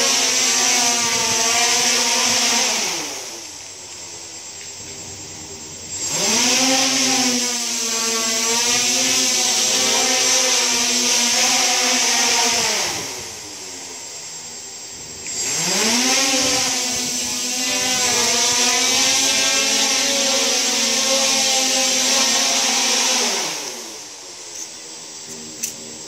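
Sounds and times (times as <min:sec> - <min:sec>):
drone motors whining and humming: 0:00.0 - 0:26.0.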